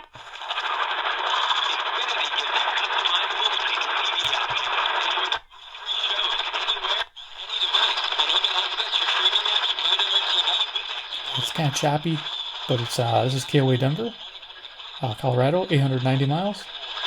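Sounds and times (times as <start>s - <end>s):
radio static and hiss: 0.0s - 17.0s.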